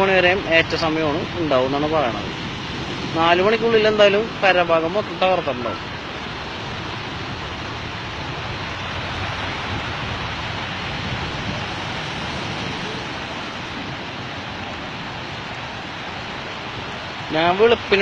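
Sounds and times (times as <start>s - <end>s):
rough water: 0.0s - 18.0s
wind: 0.0s - 18.0s
wind buffeting microphone: 0.0s - 18.0s.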